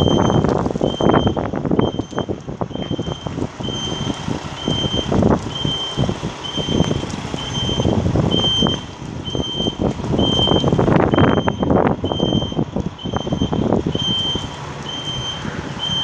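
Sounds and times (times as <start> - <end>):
backup alarm beeping: 0.0 - 16.0
mechanical rumble and knocking: 0.0 - 16.0.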